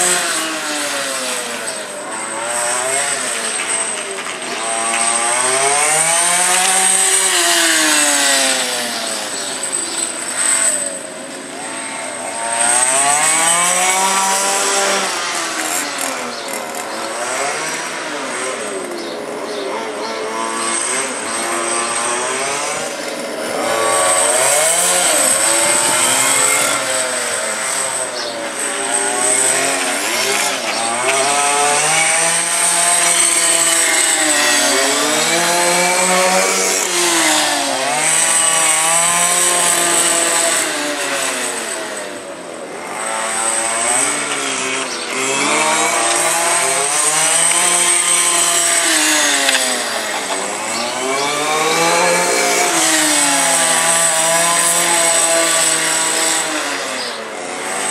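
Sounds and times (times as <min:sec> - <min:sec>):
small petrol engines revving: 0:00.0 - 0:57.9.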